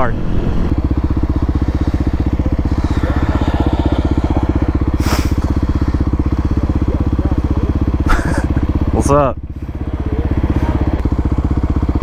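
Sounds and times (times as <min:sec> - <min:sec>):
motorcycle engine thumping: 0:00.6 - 0:12.0.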